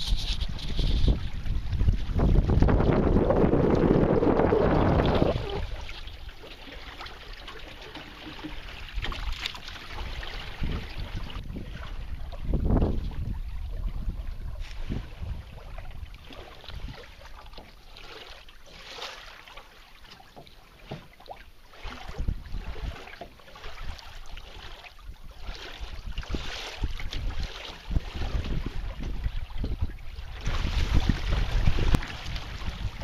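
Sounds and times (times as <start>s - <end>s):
wind rumbling on microphone: 0.0s - 6.3s, 8.7s - 17.6s, 21.8s - 33.0s
water splashing against hull: 0.0s - 33.0s.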